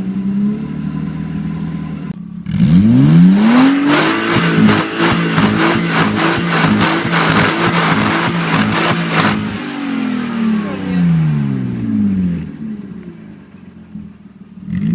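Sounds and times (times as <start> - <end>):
loud car engine revving: 0.0 - 14.9.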